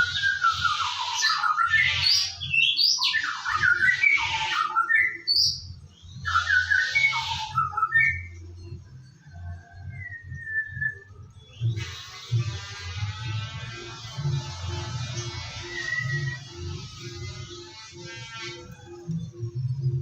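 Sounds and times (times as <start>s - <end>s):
bird singing rasping and whistling: 0.0s - 20.0s.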